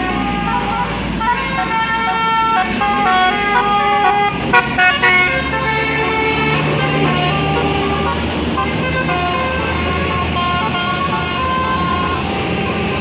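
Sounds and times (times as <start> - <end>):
bus engine low hum: 0.0 - 13.0
multi-tone bus horn melody: 0.0 - 13.0.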